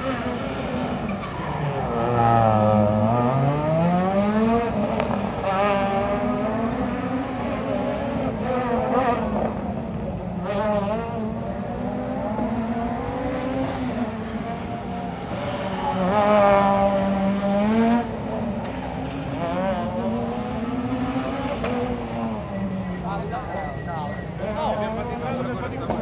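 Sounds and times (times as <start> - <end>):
rally car engine revving: 0.0 - 23.1.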